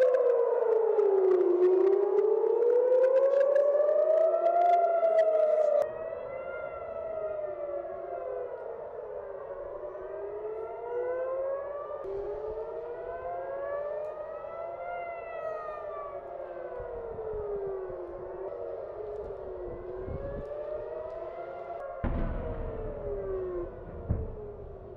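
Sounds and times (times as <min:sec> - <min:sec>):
air-raid sirens wailing: 0:00.0 - 0:24.9.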